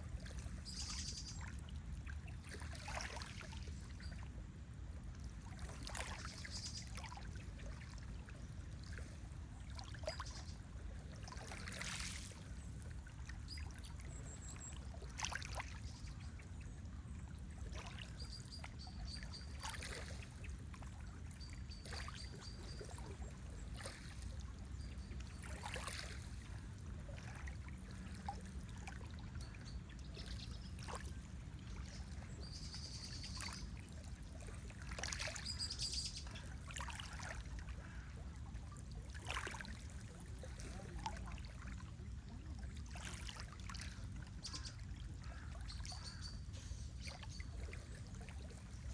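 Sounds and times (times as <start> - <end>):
low water rush: 0.0 - 48.9
water trickling and splashing: 0.0 - 48.9.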